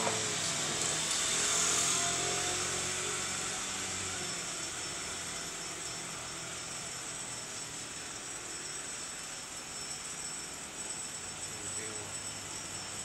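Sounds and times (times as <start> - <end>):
small motor whirring: 0.0 - 13.0.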